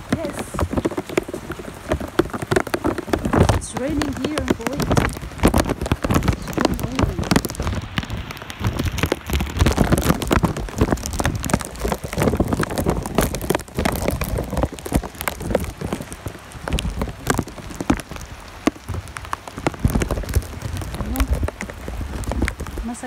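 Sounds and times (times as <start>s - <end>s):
rain falling: 0.0s - 23.0s
sharp raindrop hits: 0.0s - 23.0s.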